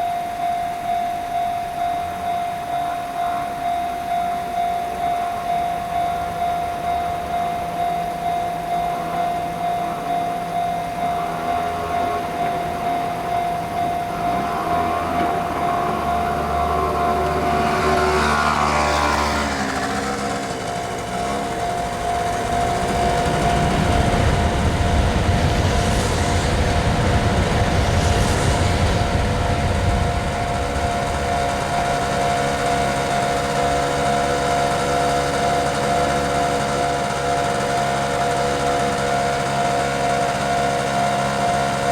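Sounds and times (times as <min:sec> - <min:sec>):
level-crossing warning bell ringing: 0:00.0 - 0:41.9
train rumbling past: 0:00.8 - 0:41.9
falling whine: 0:01.8 - 0:41.9.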